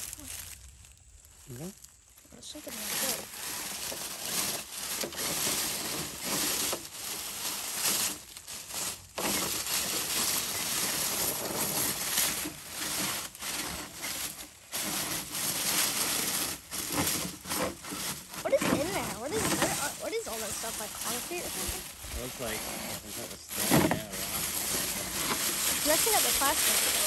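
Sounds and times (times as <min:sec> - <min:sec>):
dry leaves crunching and rustling: 0:00.0 - 0:27.0.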